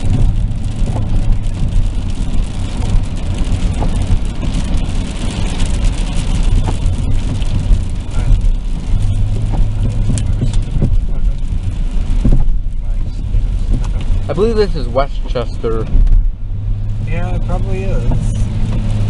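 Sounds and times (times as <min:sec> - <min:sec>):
engine and tyres on wet road: 0:00.0 - 0:19.0.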